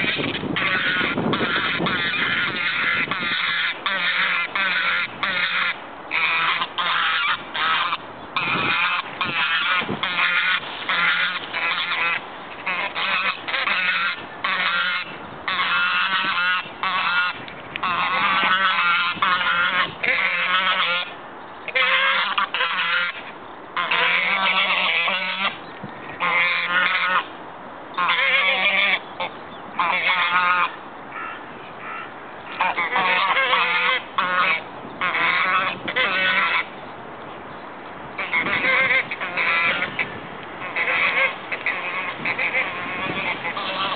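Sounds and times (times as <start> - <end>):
geese honking: 0.0 - 27.3, 27.9 - 36.8, 38.2 - 43.9.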